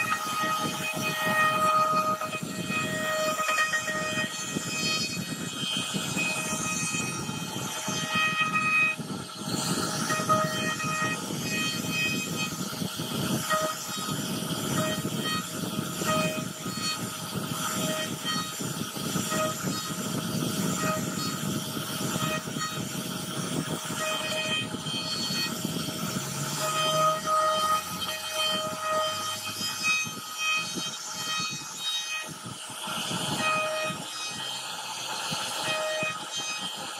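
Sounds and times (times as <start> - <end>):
router bit cutting wood: 0.0 - 36.9
router spindle whining: 0.0 - 36.9.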